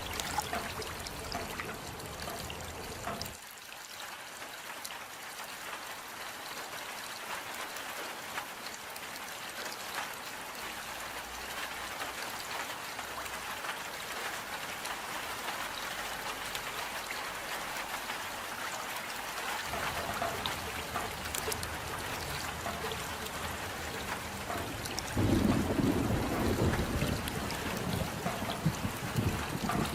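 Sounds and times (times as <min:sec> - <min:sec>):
rain falling: 0:00.0 - 0:29.9.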